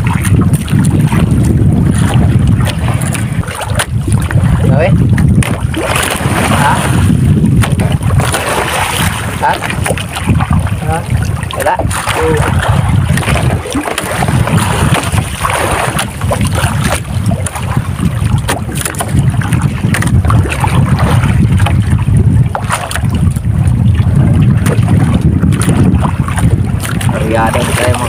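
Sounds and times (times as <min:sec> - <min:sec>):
water lapping against hull: 0:00.0 - 0:28.0
wind rumbling on microphone: 0:00.0 - 0:28.0.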